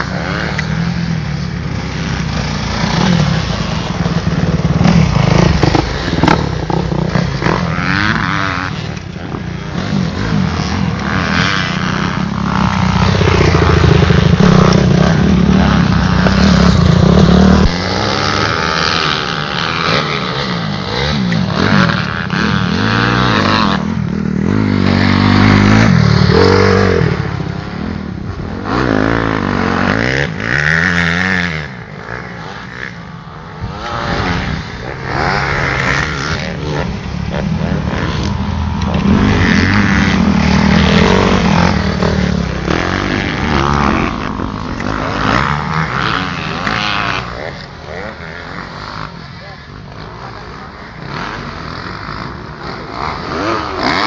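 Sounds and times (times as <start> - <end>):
motocross engines revving: 0.0 - 54.0.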